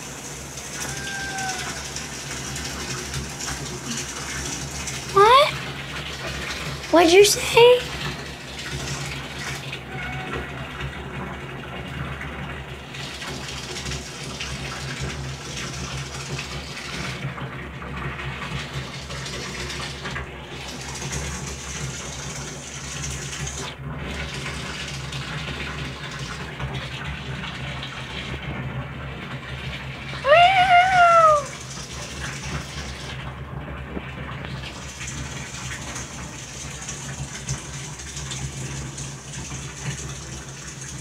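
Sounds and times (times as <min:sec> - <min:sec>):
water running from a tap: 0:00.0 - 0:41.0.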